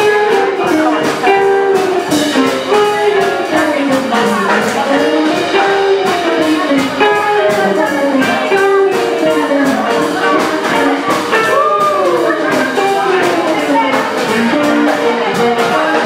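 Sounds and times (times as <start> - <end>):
swing band playing jazz: 0.0 - 16.0.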